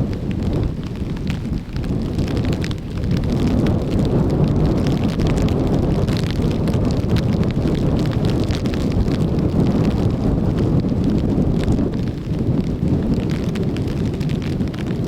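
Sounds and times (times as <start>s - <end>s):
hard rain falling: 0.0s - 15.0s
raindrops ticking: 0.0s - 15.0s
wind buffeting microphone: 0.0s - 15.0s.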